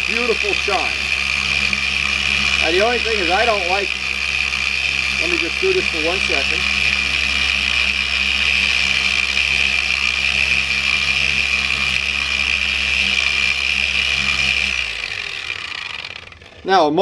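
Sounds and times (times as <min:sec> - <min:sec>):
electric polisher whirring: 0:00.0 - 0:17.0.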